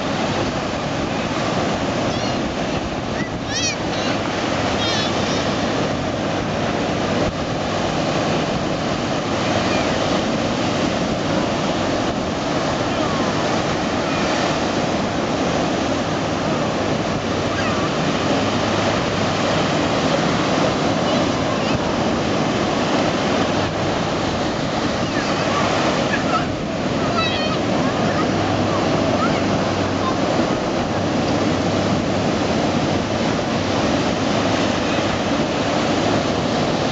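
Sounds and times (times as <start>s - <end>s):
ocean surf breaking: 0.0s - 36.9s.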